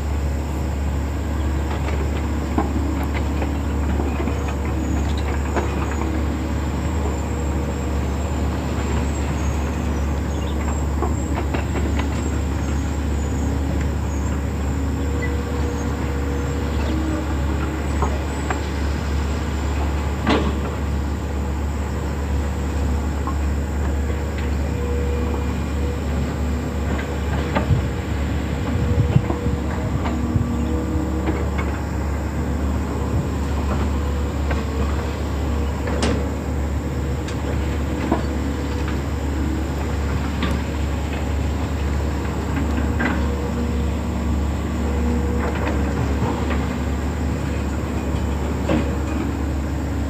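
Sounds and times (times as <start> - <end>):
excavator diesel engine rumbling: 0.0 - 50.0.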